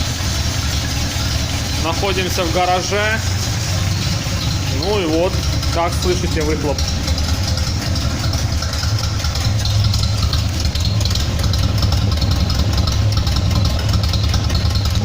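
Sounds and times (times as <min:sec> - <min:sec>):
engine idling through exhaust: 0:00.0 - 0:15.0.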